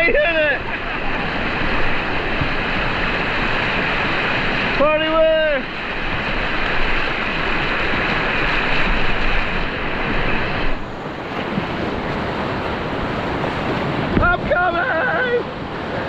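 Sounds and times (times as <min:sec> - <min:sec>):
rushing whitewater of river rapid: 0:00.0 - 0:16.0.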